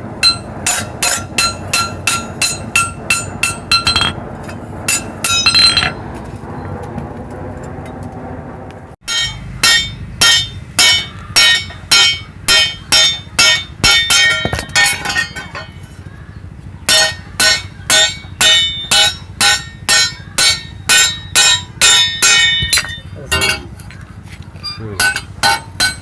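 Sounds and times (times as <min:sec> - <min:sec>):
hammer striking steel on anvil: 0:00.2 - 0:06.0, 0:09.0 - 0:15.8, 0:16.9 - 0:23.9, 0:24.6 - 0:26.0.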